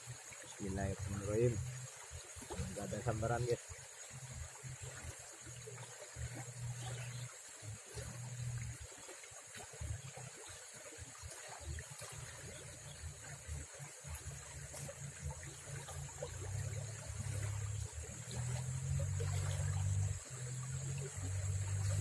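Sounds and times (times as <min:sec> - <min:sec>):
stream water trickling: 0:00.0 - 0:22.0.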